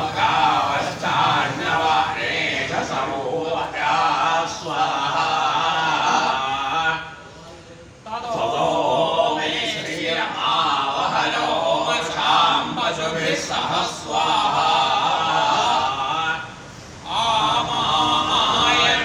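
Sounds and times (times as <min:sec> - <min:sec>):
men chanting together: 0:00.0 - 0:07.4, 0:08.0 - 0:19.0.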